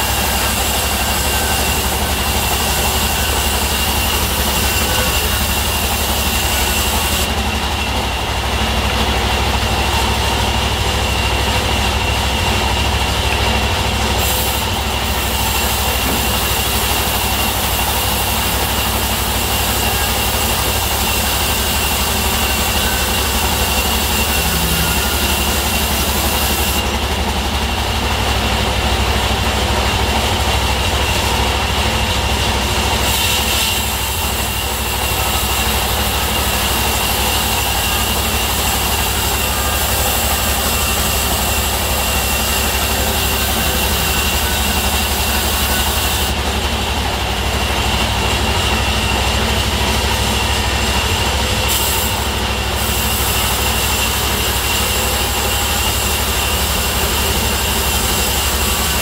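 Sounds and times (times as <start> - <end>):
band saw blade whining: 0.0 - 59.0
diesel engine drone: 0.0 - 59.0.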